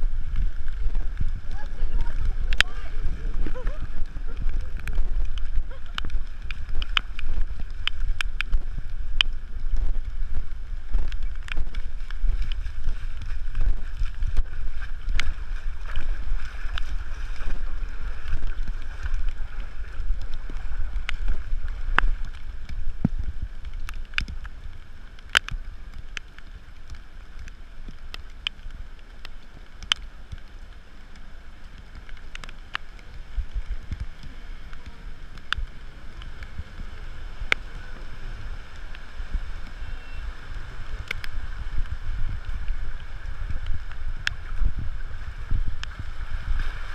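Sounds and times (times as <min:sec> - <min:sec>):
water sloshing and splashing: 0:00.0 - 0:46.9
wind rumbling on microphone: 0:00.0 - 0:46.9.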